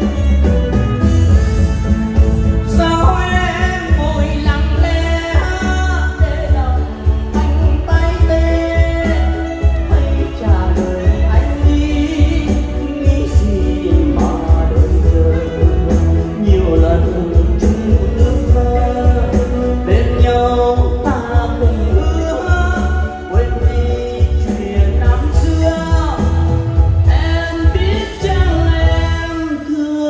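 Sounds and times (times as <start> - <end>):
amplified band with heavy bass: 0.0 - 30.0
man singing: 0.0 - 30.0.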